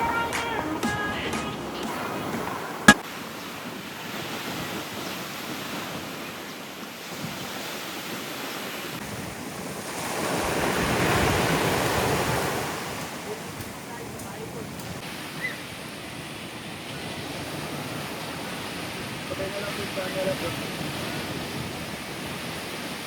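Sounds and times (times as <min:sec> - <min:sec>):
sea waves washing onto shore: 0:00.0 - 0:23.0
wind on microphone: 0:00.0 - 0:23.0.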